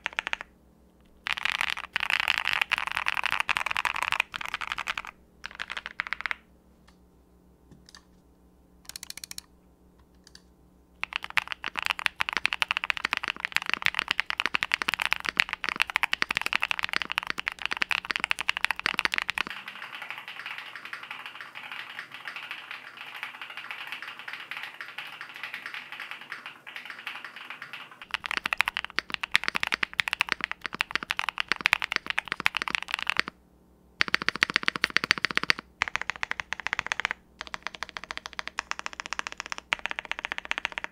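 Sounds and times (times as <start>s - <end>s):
fast typing on mechanical keyboard: 0.0s - 0.5s, 1.2s - 6.4s, 8.9s - 9.4s, 11.0s - 33.3s, 34.0s - 40.9s.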